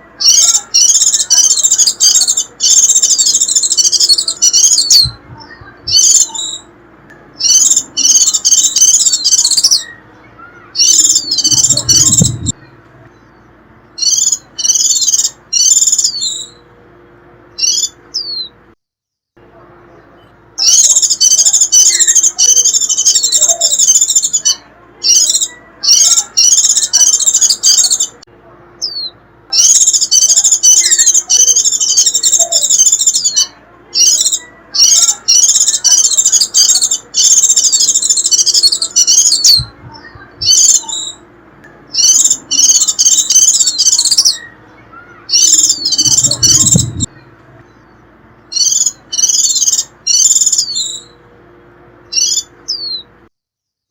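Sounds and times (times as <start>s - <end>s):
white-eye twittering: 0.0s - 6.7s, 7.4s - 16.6s, 17.6s - 18.5s, 20.6s - 28.2s, 28.8s - 41.3s, 41.9s - 51.2s, 52.1s - 53.1s.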